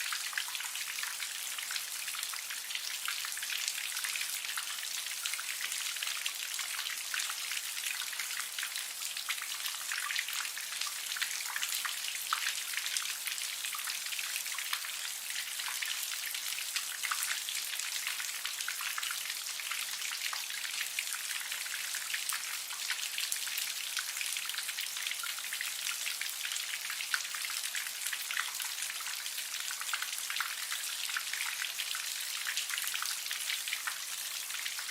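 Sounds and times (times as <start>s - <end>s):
light rain pattering: 0.0s - 34.9s.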